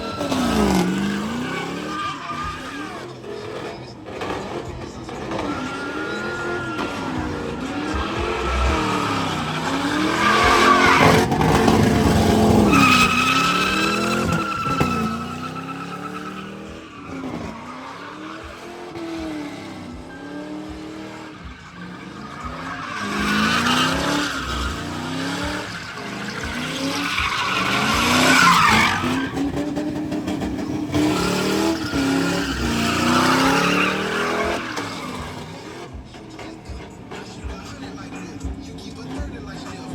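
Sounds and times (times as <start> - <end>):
car engine revving: 0.0 - 39.9
tyres squealing on pavement: 0.0 - 39.9.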